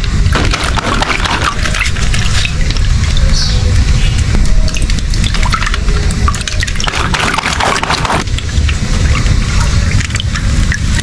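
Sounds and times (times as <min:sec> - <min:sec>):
water running from a hose: 0:00.0 - 0:11.0
water splashing and dripping: 0:00.0 - 0:11.0.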